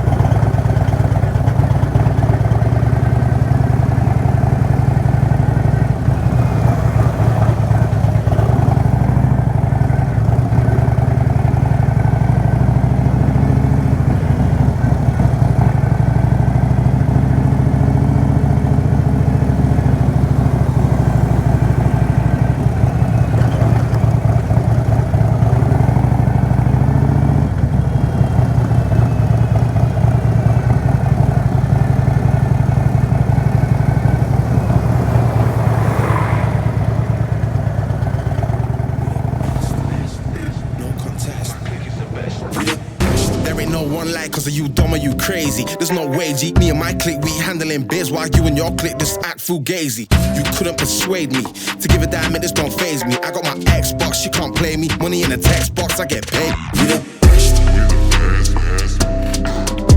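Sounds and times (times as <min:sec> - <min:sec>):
motorcycle engine running: 0:00.0 - 0:45.9, 0:46.5 - 0:49.1, 0:50.1 - 0:52.9, 0:53.6 - 0:59.9.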